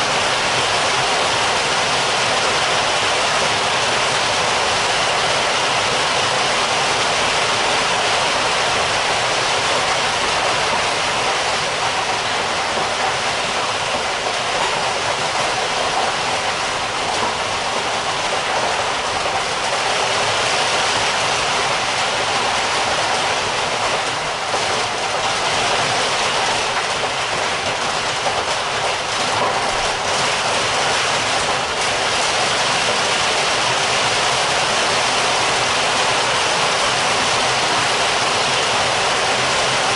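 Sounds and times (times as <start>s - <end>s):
heavy rain downpour: 0.0s - 39.9s
sharp raindrops: 0.0s - 39.9s.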